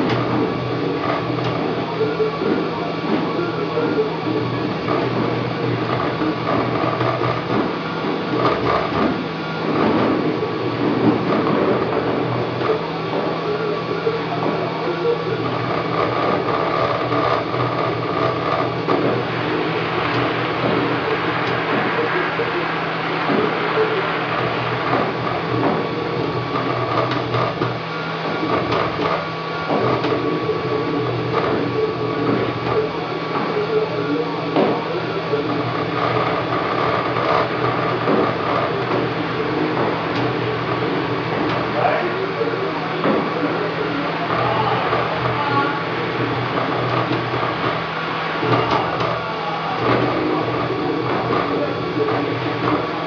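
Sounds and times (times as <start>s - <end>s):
steady low hum: 0.0s - 53.0s
stepper motors whirring: 0.0s - 53.0s.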